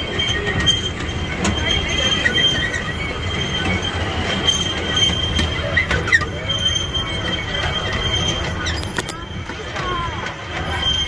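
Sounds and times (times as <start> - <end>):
high wheel squeal: 0.0 - 11.0
train wheels rumbling on rail: 0.0 - 11.0.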